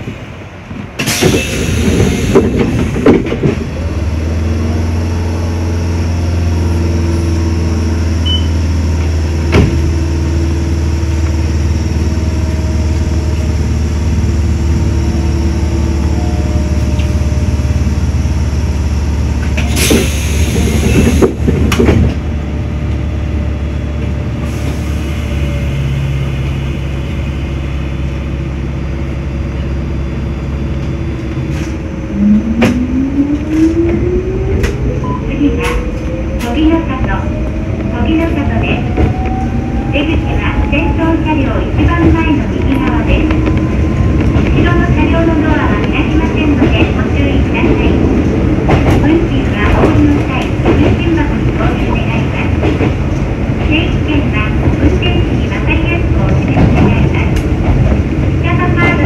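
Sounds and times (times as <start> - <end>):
electric train humming: 0.0 - 59.0.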